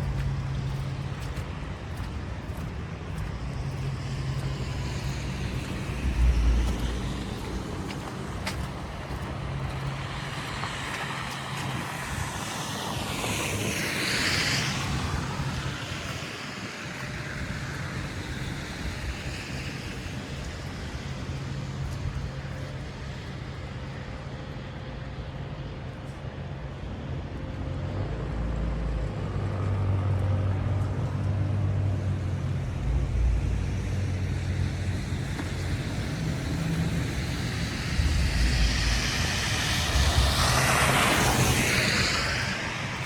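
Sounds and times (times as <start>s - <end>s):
traffic engine hum: 0.0s - 43.0s
vehicle passing with tyre hiss: 3.3s - 23.8s, 28.3s - 43.0s.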